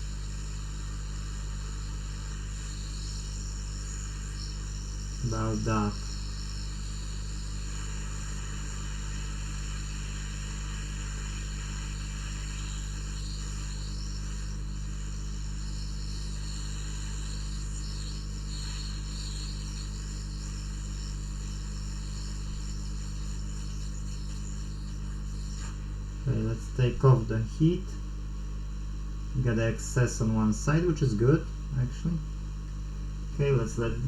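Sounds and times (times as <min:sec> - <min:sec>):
hot air blower hissing: 0:00.0 - 0:28.4, 0:33.1 - 0:34.0
low electrical hum: 0:00.0 - 0:34.0.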